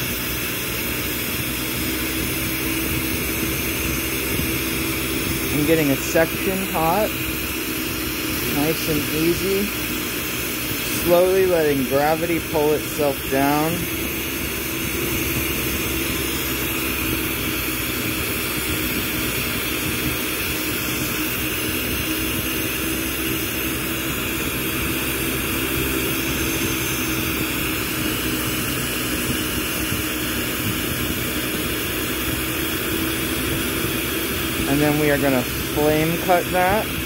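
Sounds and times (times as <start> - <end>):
steady hum: 0.0 - 37.0
torch flame roaring: 0.0 - 37.0.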